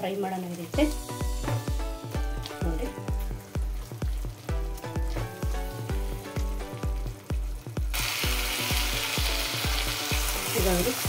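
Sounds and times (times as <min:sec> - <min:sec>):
food frying sizzle: 0:00.0 - 0:11.0
background music with beat: 0:00.8 - 0:11.0.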